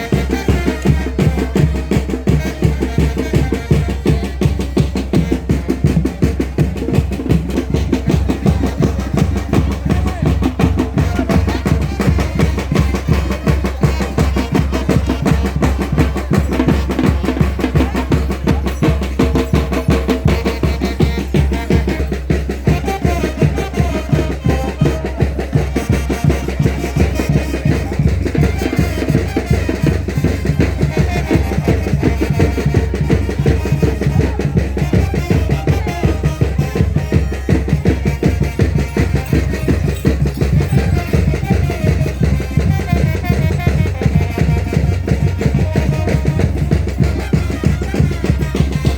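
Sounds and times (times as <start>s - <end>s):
heavy drums beating: 0.0s - 48.9s.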